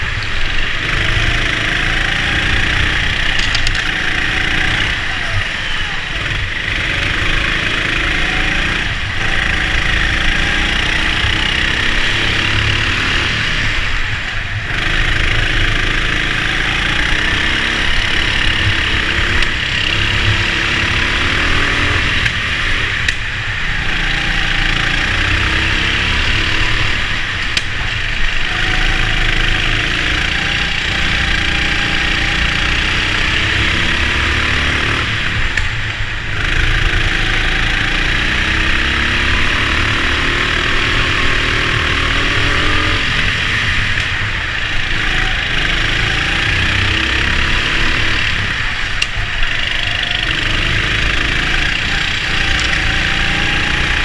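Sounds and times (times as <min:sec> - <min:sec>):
go-kart motor revving: 0:00.0 - 0:54.0
heavy steady rumble: 0:00.0 - 0:54.0.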